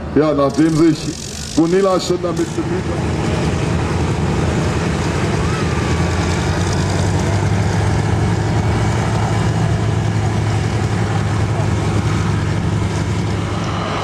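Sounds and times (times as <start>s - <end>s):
rotary aircraft engine running: 0.0s - 14.0s.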